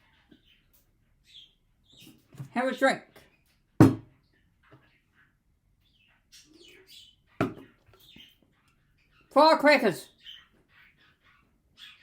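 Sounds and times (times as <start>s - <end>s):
faint bird chirps: 0.0s - 9.4s, 10.1s - 12.0s.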